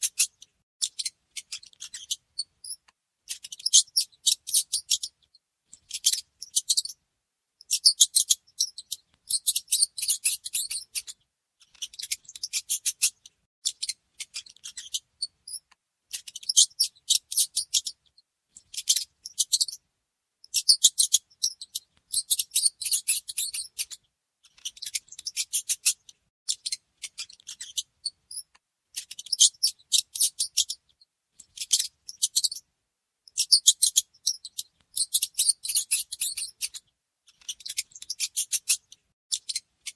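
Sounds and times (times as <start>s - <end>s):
mice squeaking: 0.0s - 7.0s, 7.6s - 19.8s, 20.4s - 32.6s, 33.3s - 36.8s, 37.4s - 39.9s.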